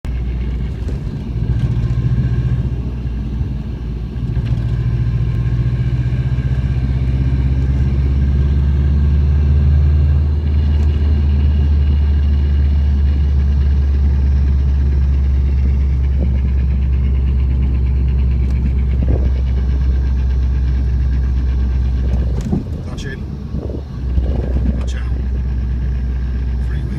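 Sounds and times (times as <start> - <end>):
car engine running with whine: 0.0 - 26.9.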